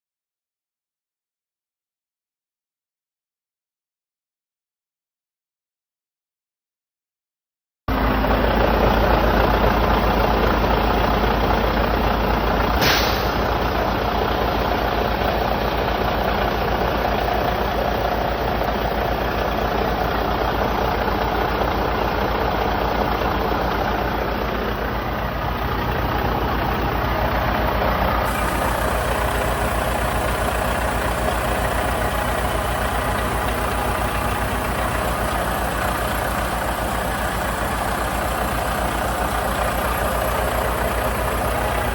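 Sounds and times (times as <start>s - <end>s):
truck engine idling: 7.9s - 41.9s.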